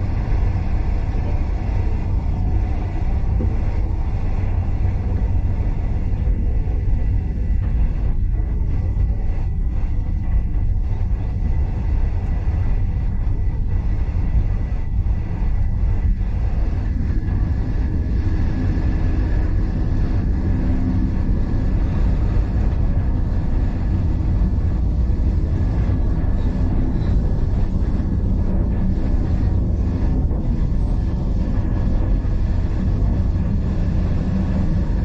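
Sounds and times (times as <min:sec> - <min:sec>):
faint thin whine: 0:00.0 - 0:35.0.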